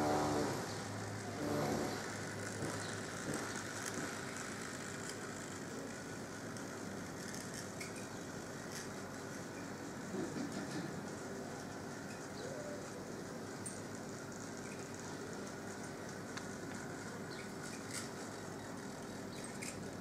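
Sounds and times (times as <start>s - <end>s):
model train motor whirring: 0.0s - 20.0s
wheels clicking on rails: 0.0s - 20.0s.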